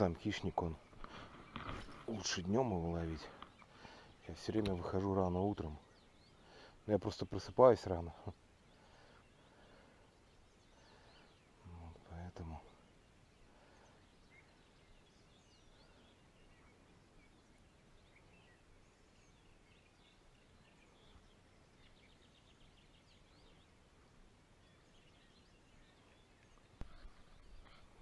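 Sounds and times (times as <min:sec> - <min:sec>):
faint distant birdsong: 0:00.0 - 0:28.0.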